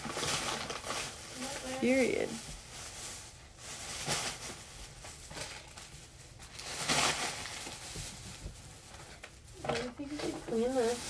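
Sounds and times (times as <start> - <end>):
rustling and shuffling: 0.0 - 11.0.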